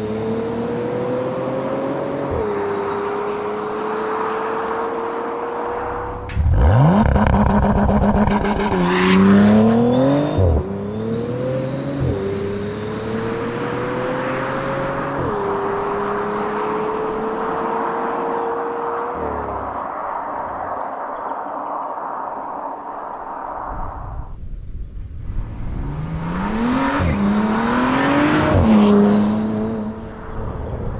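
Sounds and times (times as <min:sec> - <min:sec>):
car engine accelerating: 0:00.0 - 0:20.3, 0:25.3 - 0:30.9.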